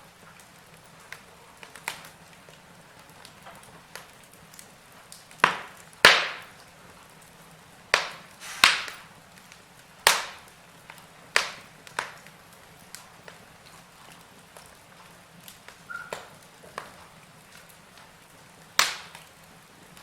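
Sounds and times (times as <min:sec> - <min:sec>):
faint steady hiss: 0:00.0 - 0:20.0
fire crackling pops: 0:00.0 - 0:20.0.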